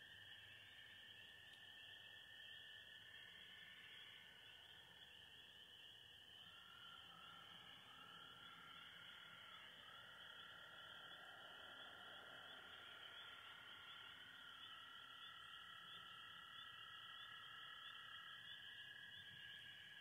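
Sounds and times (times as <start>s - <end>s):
animals trilling at night: 0.0s - 20.0s.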